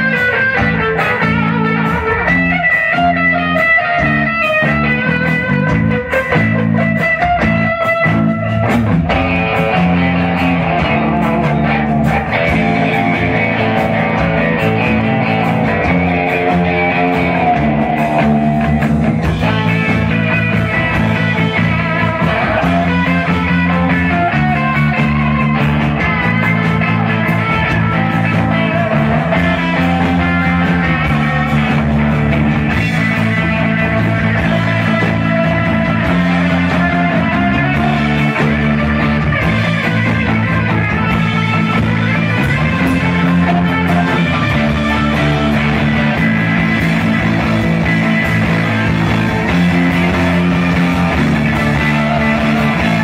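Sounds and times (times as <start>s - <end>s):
hard rock band playing live: 0.0s - 53.0s.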